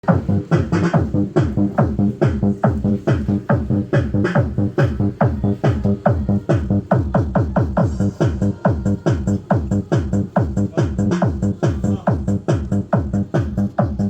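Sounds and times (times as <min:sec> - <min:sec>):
electronic dance music: 0:00.0 - 0:14.0
heavy bass kicks: 0:00.0 - 0:14.0.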